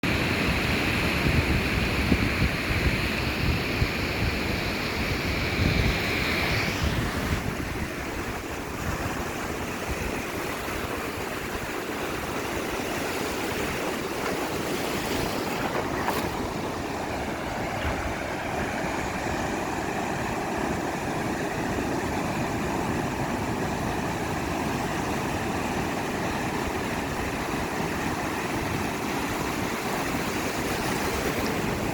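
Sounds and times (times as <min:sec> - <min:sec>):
wind buffeting microphone: 0:00.2 - 0:31.9
surf washing onto beach: 0:00.4 - 0:31.9.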